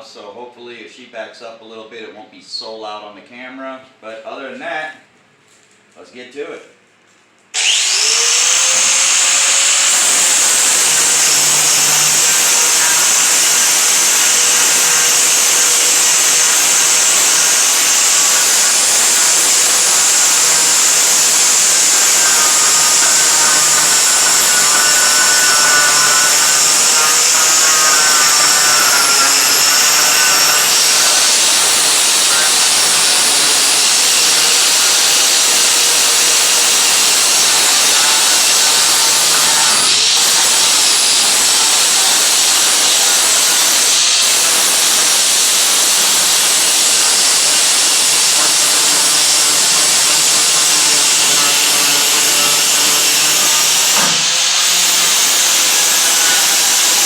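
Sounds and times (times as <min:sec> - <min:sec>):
electric grinder grinding metal: 0:07.6 - 0:57.0.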